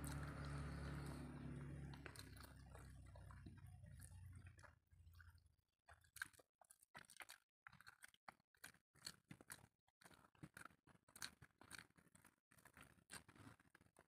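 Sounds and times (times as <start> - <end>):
chewing and wet mouth clicks: 0.0 - 14.0.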